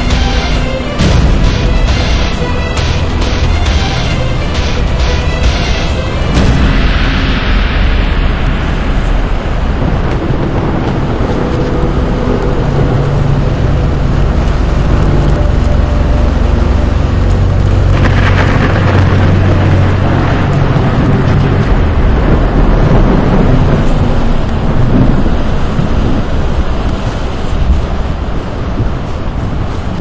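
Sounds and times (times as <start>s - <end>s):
low vehicle rumble: 0.0s - 30.0s
rain hiss: 0.0s - 30.0s
wind: 0.0s - 30.0s.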